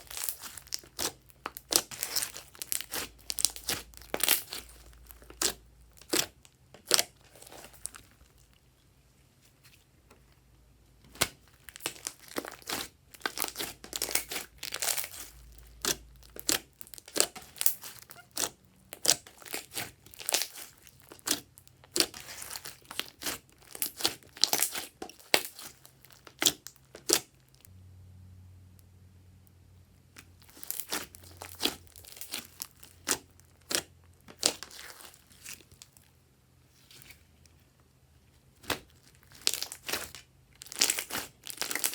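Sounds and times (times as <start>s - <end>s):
slime squishing with clicks and pops: 0.0s - 8.6s, 11.1s - 27.7s, 30.1s - 36.0s, 38.6s - 41.9s.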